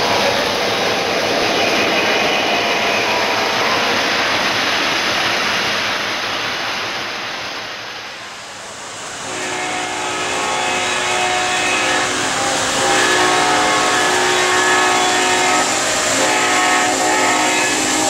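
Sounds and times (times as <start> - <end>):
model train rumbling past: 0.0 - 18.0.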